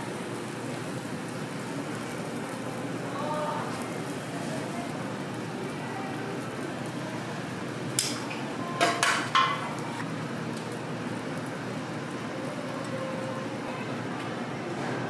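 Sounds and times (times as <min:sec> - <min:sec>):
griddle sizzling: 0:00.0 - 0:15.0.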